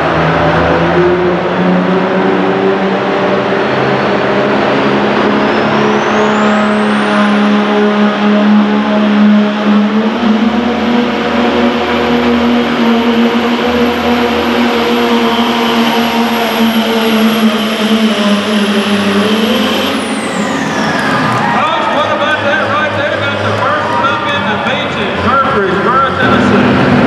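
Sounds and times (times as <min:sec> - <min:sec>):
diesel engine running under load: 0:00.0 - 0:27.0
turbocharger whistle: 0:00.0 - 0:27.0.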